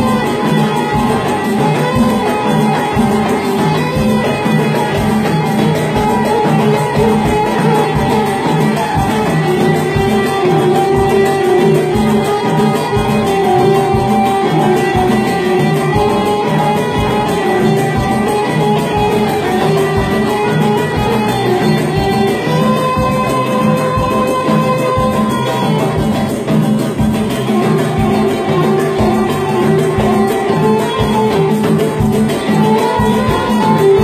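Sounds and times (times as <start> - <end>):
hand drum beat: 0.0 - 34.0
plucked strings: 0.0 - 34.0
violin melody: 0.0 - 34.0.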